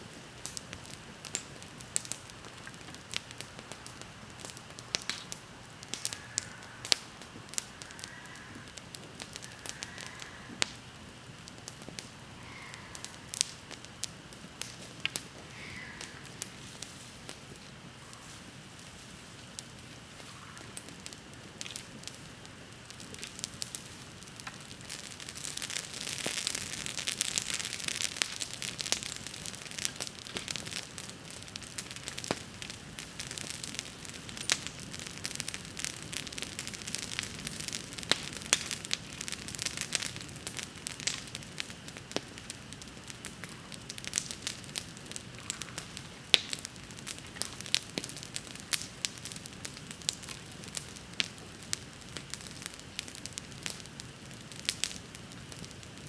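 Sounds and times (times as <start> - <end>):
fire hiss: 0.0 - 56.0
bonfire pops and snaps: 0.1 - 56.0.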